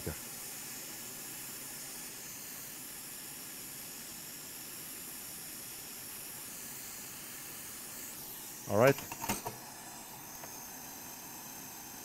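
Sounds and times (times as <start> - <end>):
hot air gun hissing: 0.0 - 12.0.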